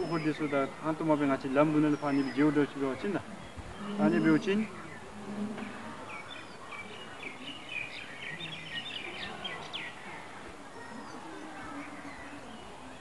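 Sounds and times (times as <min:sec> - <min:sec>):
bird chirping: 0:00.0 - 0:05.2, 0:06.0 - 0:13.0
open-air background noise: 0:00.0 - 0:13.0.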